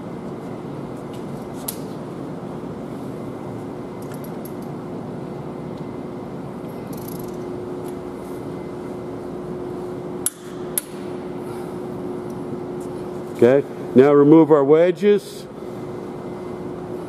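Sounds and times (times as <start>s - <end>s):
workshop low hum: 0.0s - 17.0s.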